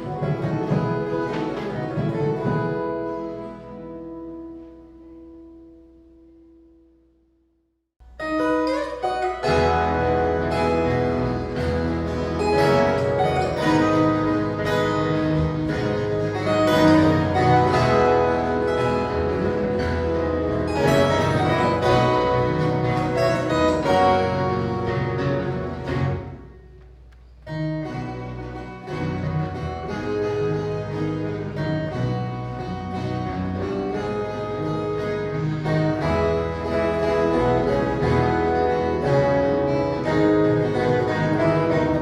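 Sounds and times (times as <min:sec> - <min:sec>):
guitar ensemble playing: 0:00.0 - 0:07.1, 0:08.0 - 0:42.0.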